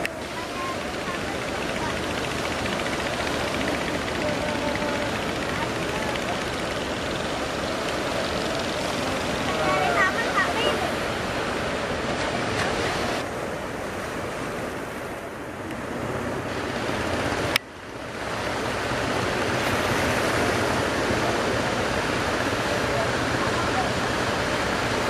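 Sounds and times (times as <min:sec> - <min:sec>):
waves breaking: 0:00.0 - 0:25.0.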